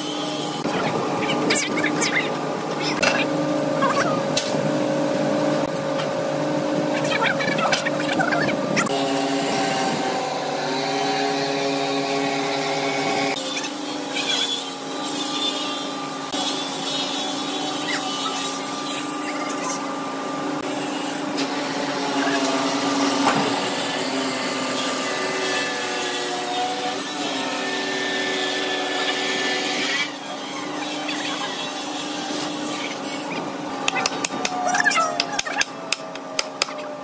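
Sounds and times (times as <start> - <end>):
workshop machinery humming: 0.0 - 37.0.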